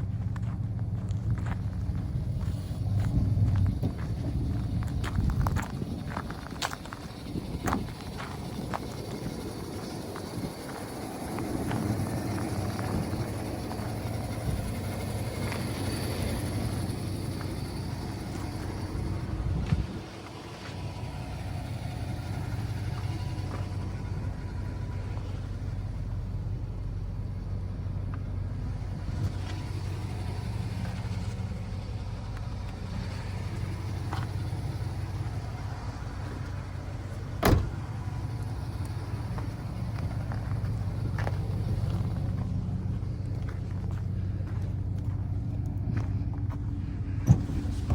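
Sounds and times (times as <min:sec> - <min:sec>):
pickup engine idling: 0:00.0 - 0:47.9.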